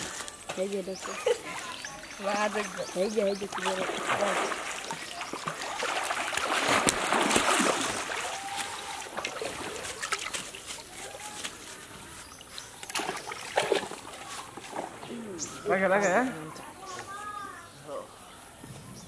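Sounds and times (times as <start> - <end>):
water splashing and sloshing: 0.0 - 17.2.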